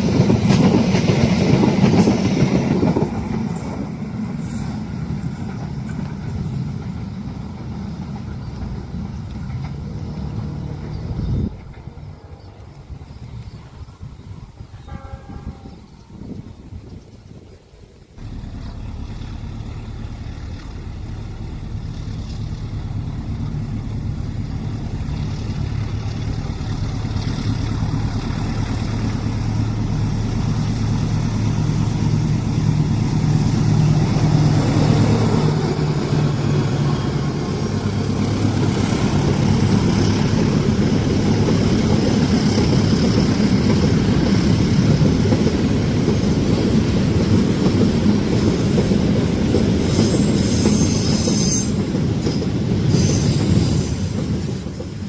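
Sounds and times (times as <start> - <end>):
train engine drone: 0.0 - 55.0
train wheels rumbling on rails: 0.0 - 55.0.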